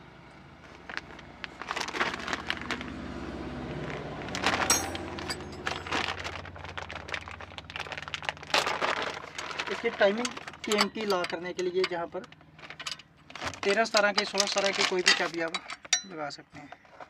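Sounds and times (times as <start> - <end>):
vehicle engine hum: 0.0 - 15.9
plastic bag crinkling: 0.7 - 3.0, 3.7 - 15.9.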